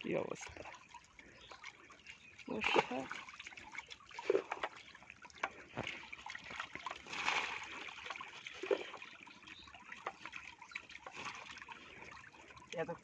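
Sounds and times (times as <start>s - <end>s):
shallow water trickling: 0.0s - 13.0s
water splashing: 0.0s - 13.0s.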